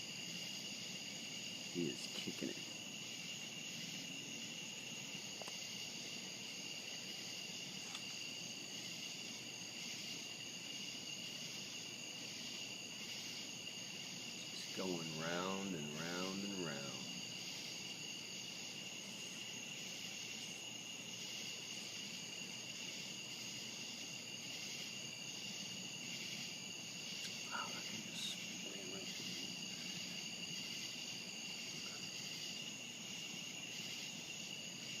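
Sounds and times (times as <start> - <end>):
crickets and night insects trilling: 0.0 - 35.0.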